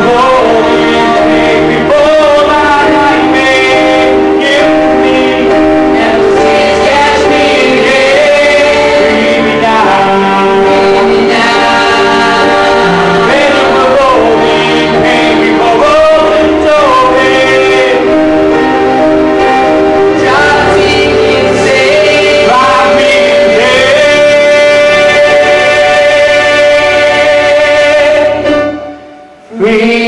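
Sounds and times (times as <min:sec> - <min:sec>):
men singing into microphones: 0:00.0 - 0:28.8, 0:29.4 - 0:30.0
musical accompaniment: 0:00.0 - 0:30.0.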